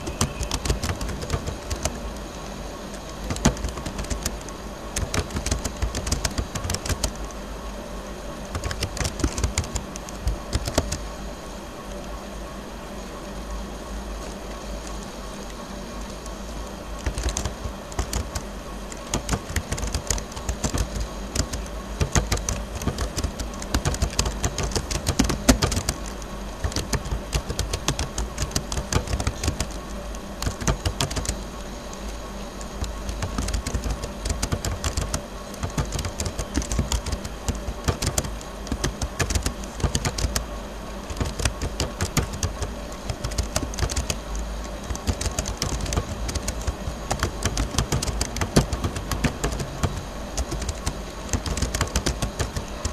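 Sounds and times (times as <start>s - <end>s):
computer keyboard typing: 0.0s - 2.2s, 3.0s - 7.3s, 8.4s - 11.1s, 16.9s - 31.7s, 32.6s - 52.9s
low steady hum: 0.0s - 52.9s.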